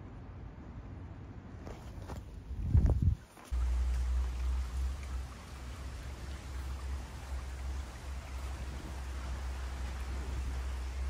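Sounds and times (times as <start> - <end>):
water running in a stream: 1.8 - 11.0.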